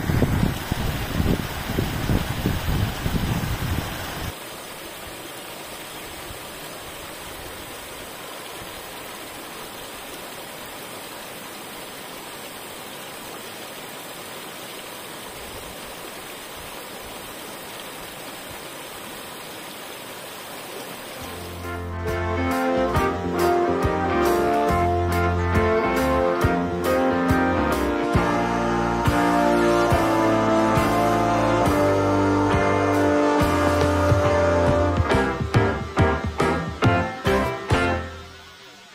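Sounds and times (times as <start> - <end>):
waterfall rushing over rock: 0.0 - 21.9, 22.7 - 38.9.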